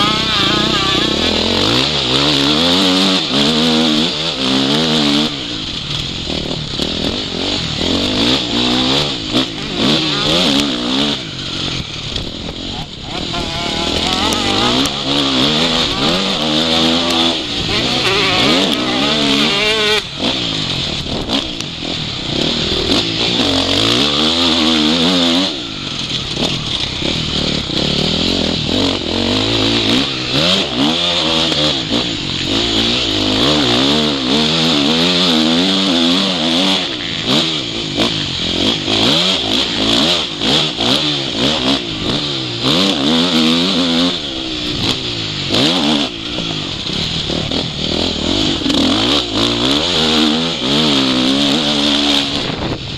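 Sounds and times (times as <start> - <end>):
motorbike engine revving: 0.0 - 52.9.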